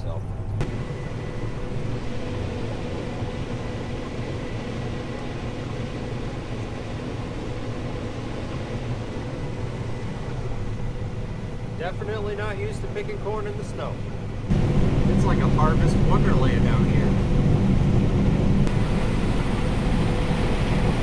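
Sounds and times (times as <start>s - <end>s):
harvester engine drone: 0.0s - 21.0s
thin high whine: 0.6s - 21.0s.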